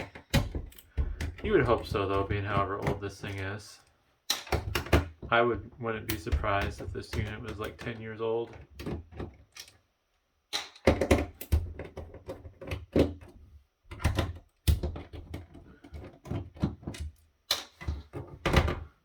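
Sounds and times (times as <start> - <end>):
plastic device clicking and knocking: 0.0 - 3.5, 4.3 - 9.8, 10.5 - 18.9.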